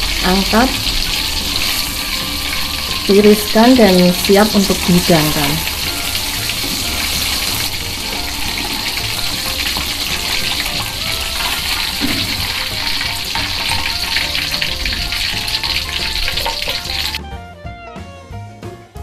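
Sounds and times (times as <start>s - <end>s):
food deep-frying in hot oil: 0.0s - 17.2s
faint music: 0.0s - 19.0s.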